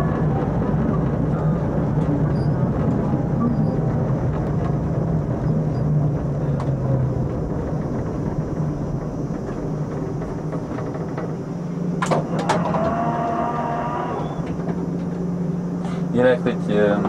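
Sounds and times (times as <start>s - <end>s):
tram humming and rumbling: 0.0s - 17.0s.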